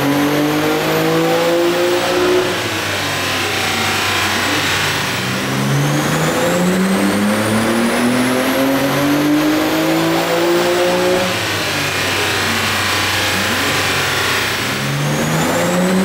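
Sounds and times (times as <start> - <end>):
car engine revving at full throttle: 0.0 - 16.0.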